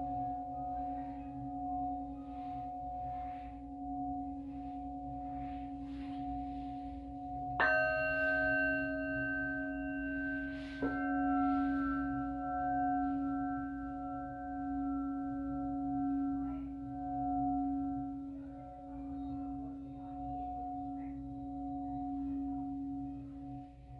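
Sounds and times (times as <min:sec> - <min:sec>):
bowl struck: 0:00.0 - 0:23.9
singing bowls ringing: 0:00.0 - 0:23.9.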